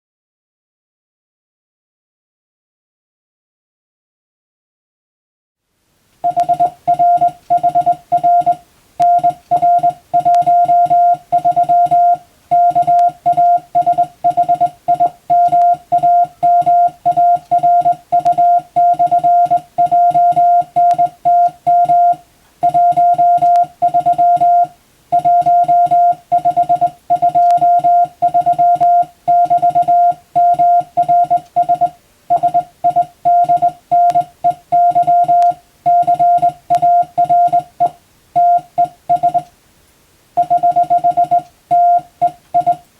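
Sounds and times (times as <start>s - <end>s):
morse code tone: 6.2s - 39.5s, 40.4s - 42.9s.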